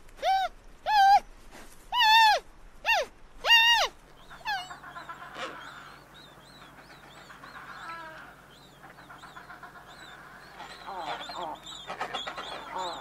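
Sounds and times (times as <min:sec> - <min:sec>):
low steady hum: 0:00.0 - 0:13.0
high-pitched animal calls: 0:00.2 - 0:01.2, 0:01.9 - 0:08.3, 0:08.9 - 0:13.0.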